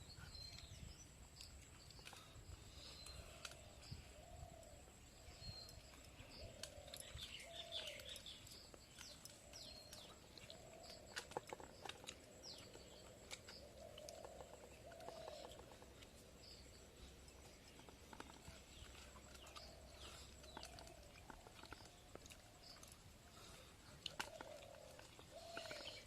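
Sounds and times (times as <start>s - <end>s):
repeated lower bird calls: 1.8s - 26.0s.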